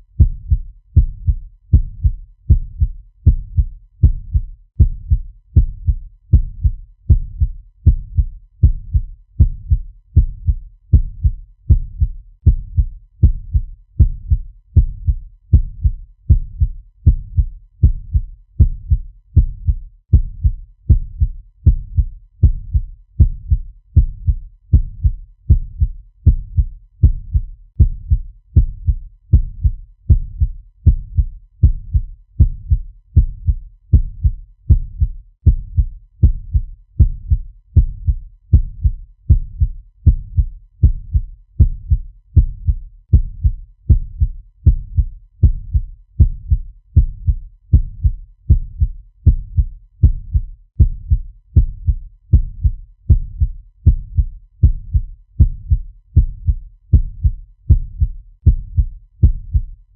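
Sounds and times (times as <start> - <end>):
fast low heartbeat: 0.0 - 59.8.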